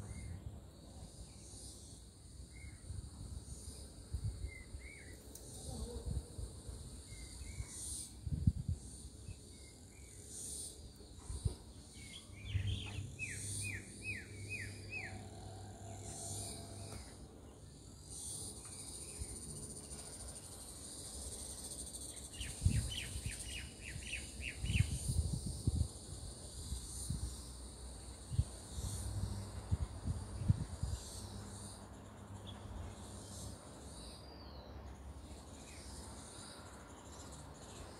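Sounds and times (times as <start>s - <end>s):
high insect buzz: 0.1s - 37.9s.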